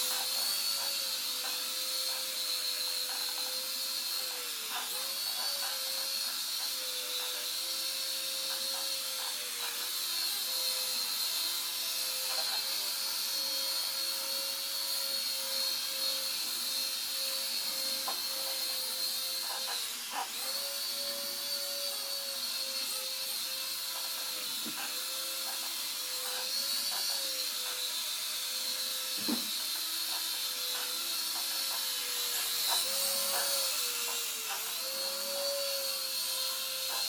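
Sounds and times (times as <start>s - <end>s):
toy flyer motors whirring: 0.0s - 37.0s.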